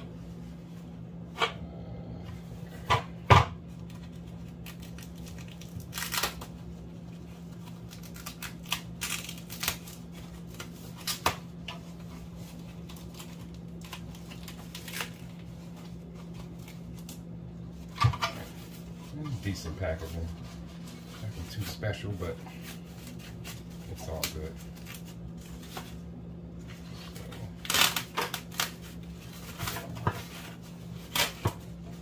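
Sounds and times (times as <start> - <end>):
foam packing wrap crinkling: 3.6 - 32.0.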